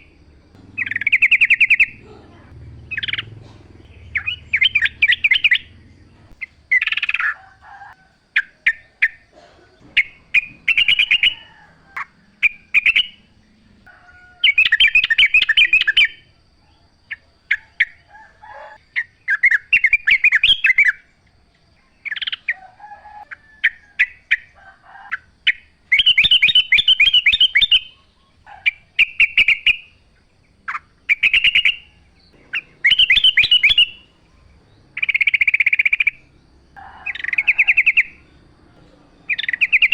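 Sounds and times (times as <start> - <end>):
bulbul singing chattering phrases: 0.0 - 21.0, 25.2 - 39.9.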